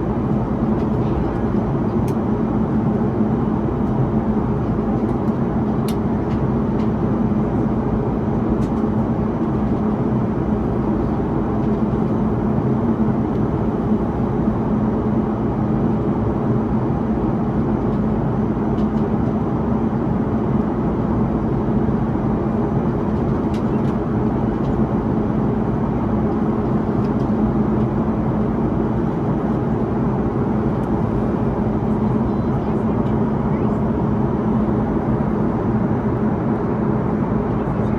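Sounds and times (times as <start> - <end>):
airplane cabin airflow and engines: 0.0 - 37.9
steady low hum: 0.0 - 37.9.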